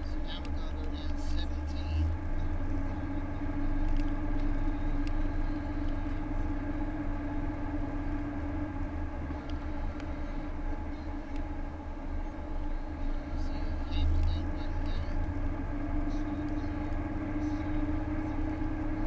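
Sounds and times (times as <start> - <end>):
car engine hum: 0.0 - 19.0
car road noise: 0.0 - 19.0.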